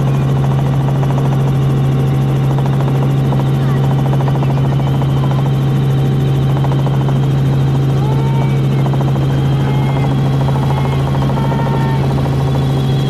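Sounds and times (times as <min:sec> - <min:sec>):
helicopter droning: 0:00.0 - 0:13.0.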